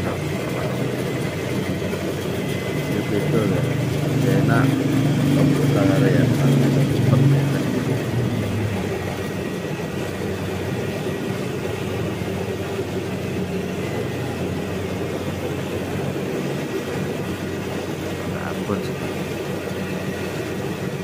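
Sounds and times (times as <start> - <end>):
diesel engine running: 0.0 - 21.0
faint high whine: 0.0 - 21.0.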